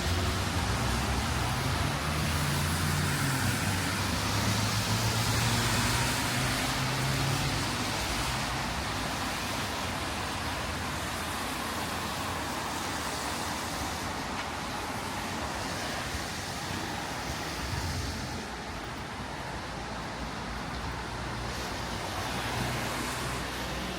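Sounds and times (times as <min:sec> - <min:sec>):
car tyres on wet street: 0:00.0 - 0:23.9
rain hissing: 0:00.0 - 0:23.9.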